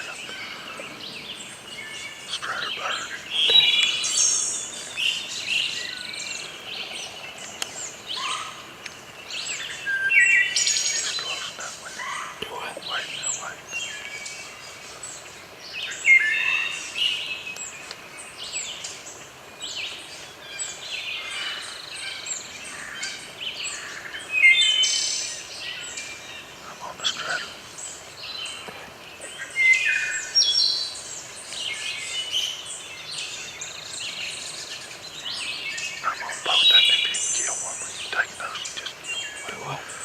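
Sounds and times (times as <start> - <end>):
songbirds singing and chirping: 0.0 - 40.0.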